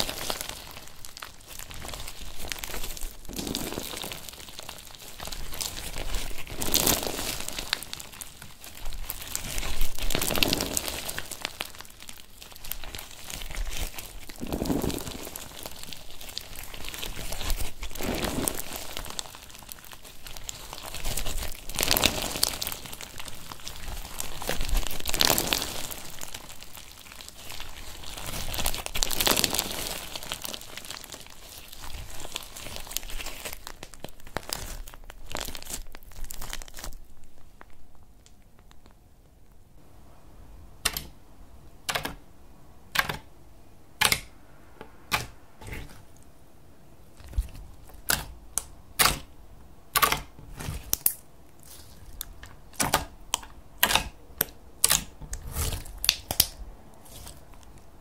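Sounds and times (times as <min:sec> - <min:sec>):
slime crackling: 0:00.0 - 0:39.0, 0:47.0 - 0:58.0.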